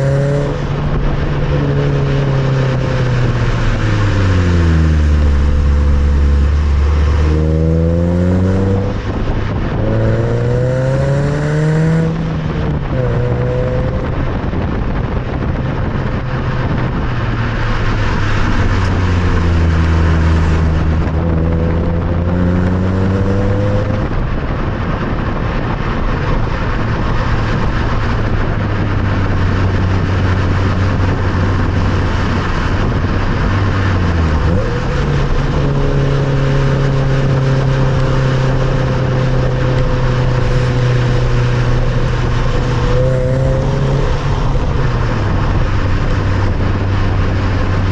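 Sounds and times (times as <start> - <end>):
car engine while driving: 0.0 - 47.9
tyre and road noise: 0.0 - 47.9.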